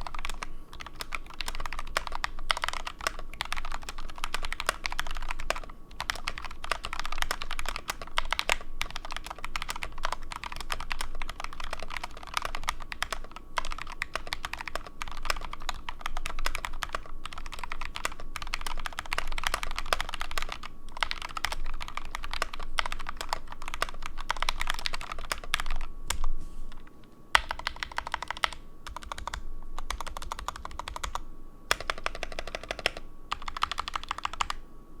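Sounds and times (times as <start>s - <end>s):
fast mechanical keyboard typing: 0.0s - 26.2s, 27.3s - 34.6s.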